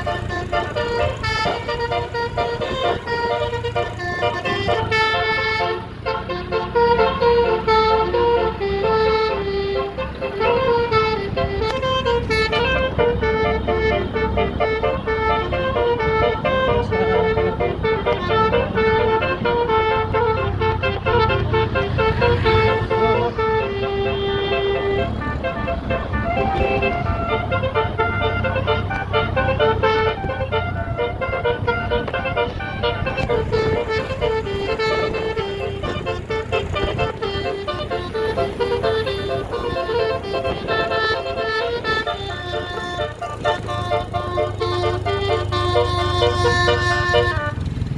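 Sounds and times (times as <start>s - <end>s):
bus engines rumbling: 0.0s - 47.9s
musical air horns playing tunes: 0.0s - 47.9s.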